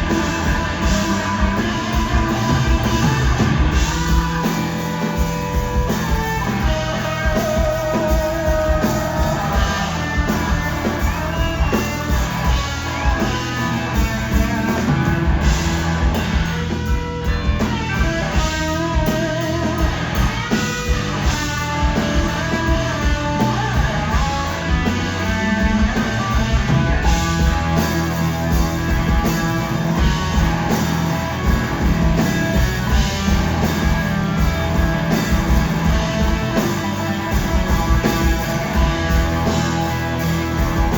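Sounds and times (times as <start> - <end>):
bass guitar: 0.0 - 40.9
drums: 0.0 - 40.9
electric lead guitar: 0.0 - 40.9.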